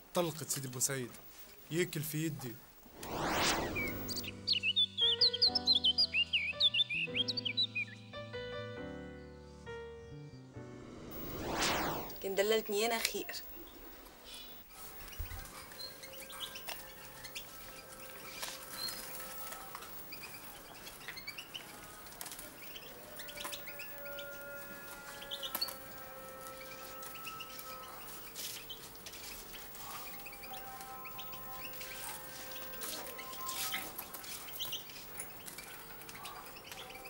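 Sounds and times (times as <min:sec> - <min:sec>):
songbirds chirping and twittering: 0:02.9 - 0:10.6, 0:12.8 - 0:37.0.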